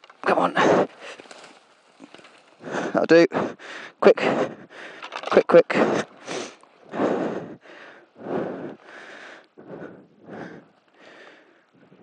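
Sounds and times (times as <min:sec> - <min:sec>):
man breathing heavily: 0:00.3 - 0:12.0.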